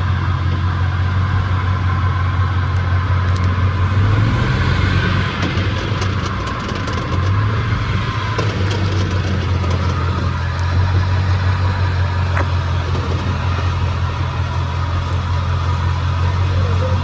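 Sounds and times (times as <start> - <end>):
truck drivetrain humming: 0.0 - 17.0.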